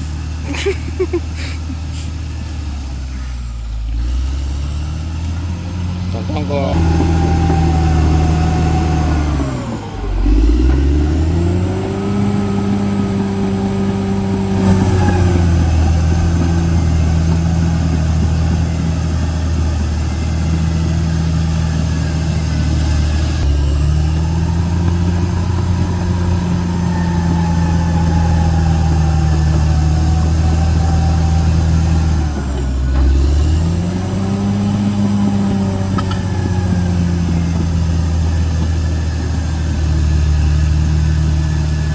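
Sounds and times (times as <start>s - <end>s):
bulldozer diesel engine working: 0.0s - 41.9s.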